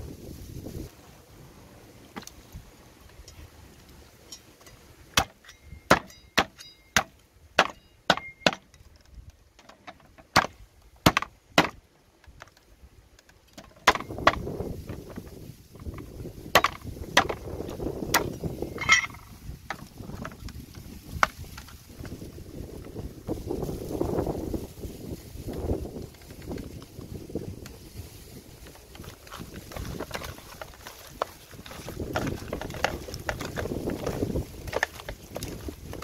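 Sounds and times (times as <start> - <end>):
wind rumbling on microphone: 0.0 - 5.9, 10.5 - 36.0.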